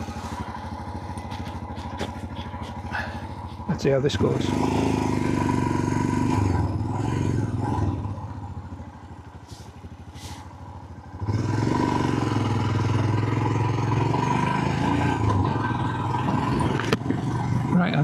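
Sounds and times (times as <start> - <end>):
motorcycle engine: 0.0 - 18.0.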